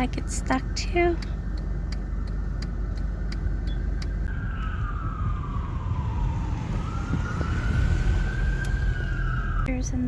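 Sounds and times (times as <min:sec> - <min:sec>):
fire truck siren wailing: 0:00.0 - 0:09.7
vehicle engines rumbling: 0:00.0 - 0:10.0.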